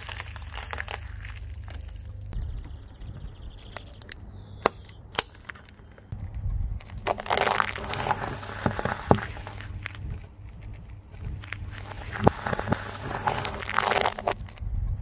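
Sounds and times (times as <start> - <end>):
sharp cracks under tyre: 0.0 - 2.4, 3.6 - 14.7
tyre crushing ice cream: 0.0 - 2.4, 3.6 - 14.7
low steady rumble: 0.0 - 15.0.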